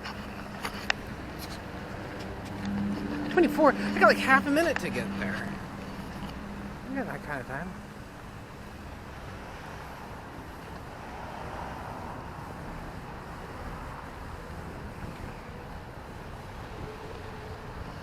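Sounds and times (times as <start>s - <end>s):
steady outdoor rushing noise: 0.0s - 18.0s.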